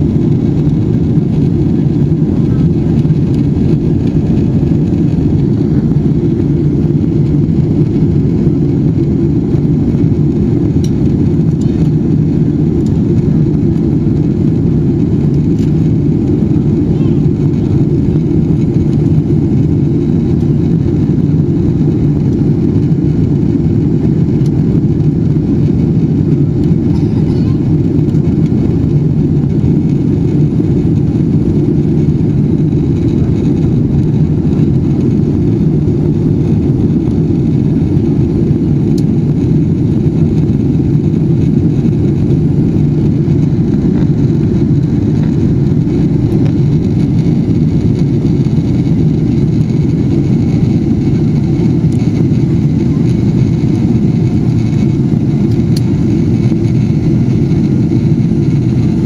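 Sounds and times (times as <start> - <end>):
jet engines with airflow: 0.0 - 59.0.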